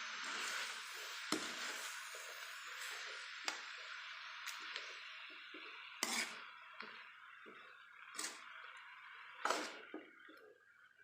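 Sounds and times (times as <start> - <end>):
food sizzling in a pan: 0.0 - 10.7.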